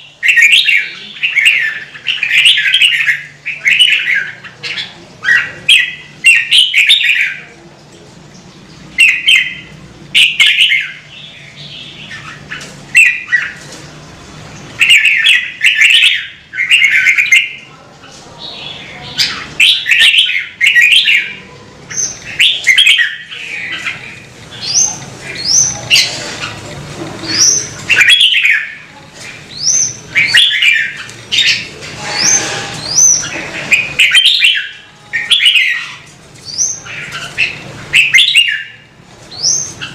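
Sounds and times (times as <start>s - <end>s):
bird singing warbled phrases: 0.0s - 7.6s, 8.3s - 13.6s, 14.5s - 39.9s.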